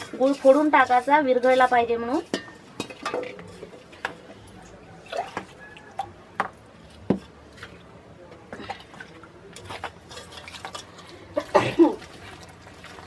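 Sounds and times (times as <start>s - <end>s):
steel bowls and utensils clinking: 0.0s - 7.9s, 8.5s - 13.0s
liquid dripping and slopping: 0.0s - 13.0s.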